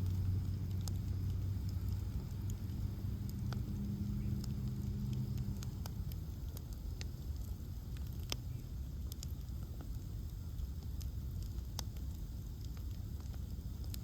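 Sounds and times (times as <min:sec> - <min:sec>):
bonfire crackling and popping: 0:00.0 - 0:14.0
low steady hum: 0:00.0 - 0:14.0.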